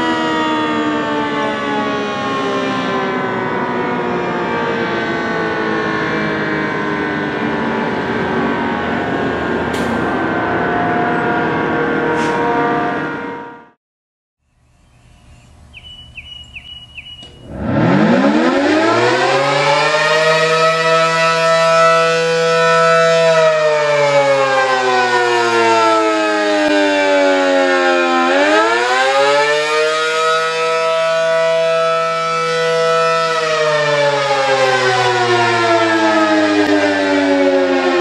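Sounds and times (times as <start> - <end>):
warning siren wailing: 0.0 - 13.8, 15.6 - 38.0.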